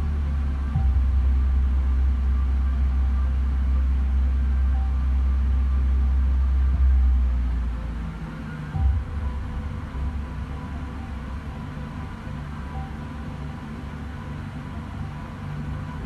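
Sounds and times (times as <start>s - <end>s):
deep rumble: 0.0s - 16.0s
faint higher tones: 0.0s - 16.0s.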